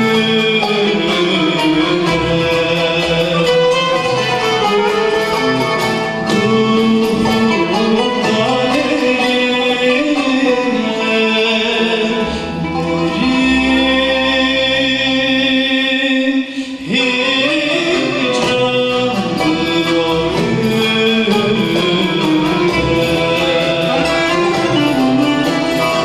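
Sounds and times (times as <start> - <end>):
person singing: 0.0 - 26.0
plucked and bowed strings ensemble: 0.0 - 26.0.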